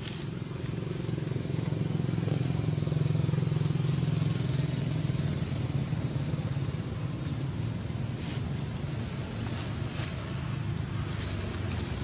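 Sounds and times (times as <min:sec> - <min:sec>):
engine running with low throb: 0:00.0 - 0:12.0.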